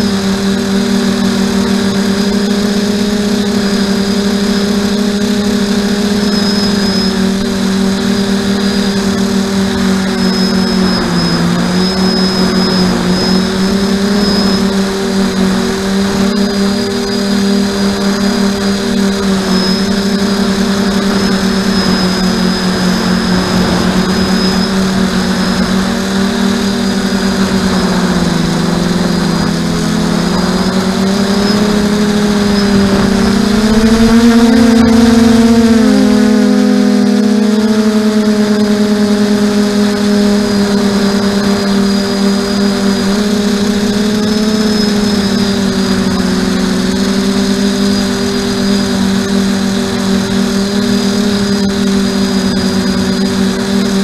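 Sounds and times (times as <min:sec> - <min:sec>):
model aircraft motor humming: 0:00.0 - 0:54.0.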